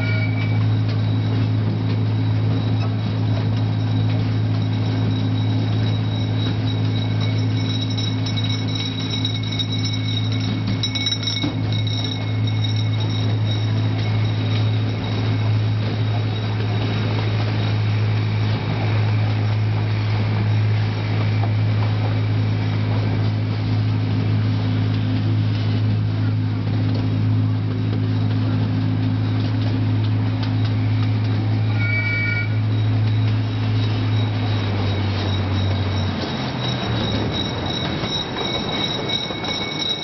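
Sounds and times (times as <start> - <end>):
high-pitched whine: 0.0 - 26.4, 30.2 - 40.0
train locomotive droning: 0.0 - 40.0.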